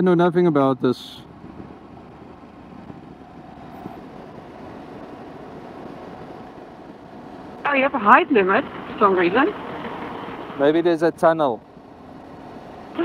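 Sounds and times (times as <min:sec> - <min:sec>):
motorcycle wind and road noise: 0:00.6 - 0:13.0.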